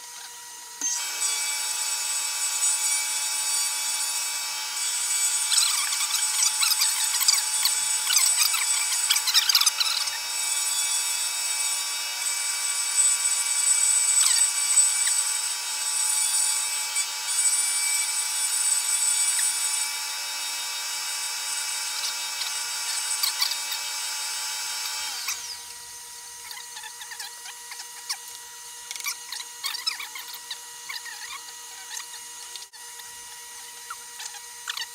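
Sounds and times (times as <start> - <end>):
cutter milling wood: 0.0 - 34.9
milling machine whining: 0.0 - 34.9.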